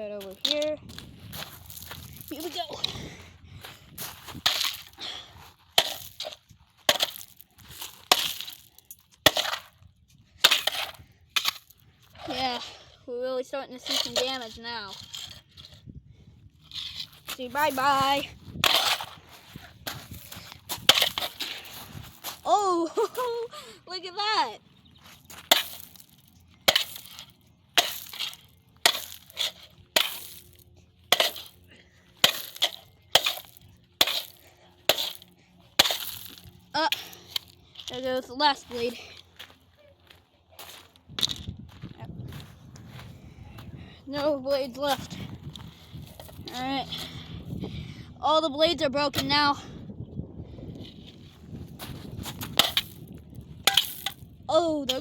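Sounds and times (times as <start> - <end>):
fan parts crunching and rattling: 0.0 - 55.0.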